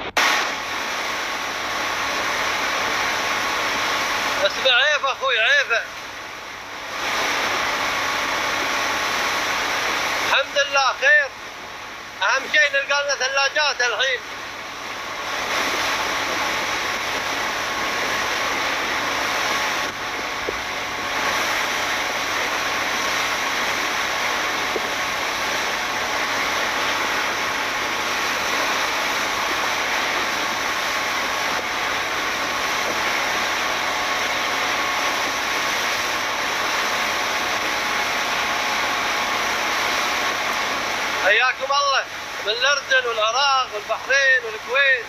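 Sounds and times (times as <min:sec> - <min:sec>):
outboard engine running: 0:00.0 - 0:04.7, 0:05.5 - 0:12.8, 0:14.0 - 0:42.9
wind and water rushing: 0:00.0 - 0:45.0.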